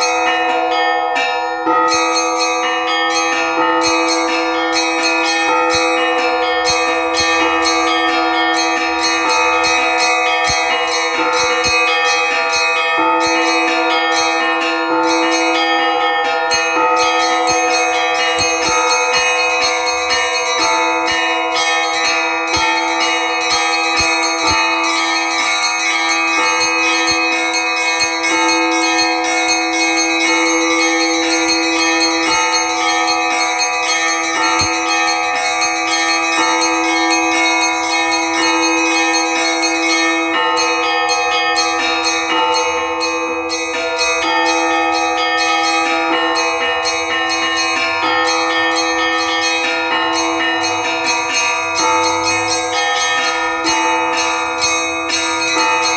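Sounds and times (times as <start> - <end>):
church bells pealing: 0.0 - 55.9.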